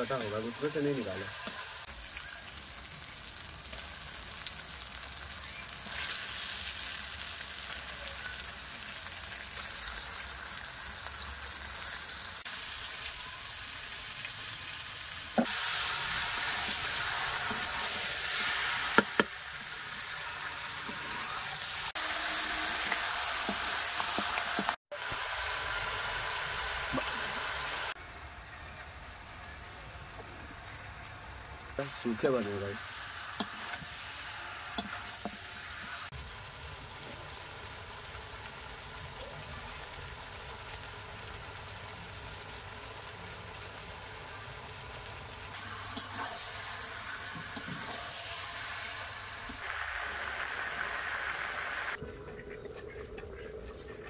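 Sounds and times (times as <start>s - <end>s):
chicken sizzling in a pan: 0.0s - 28.0s, 30.8s - 52.5s.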